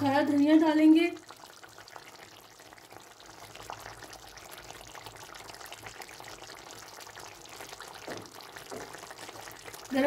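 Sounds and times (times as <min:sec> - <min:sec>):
curry simmering and bubbling: 0:00.0 - 0:10.0.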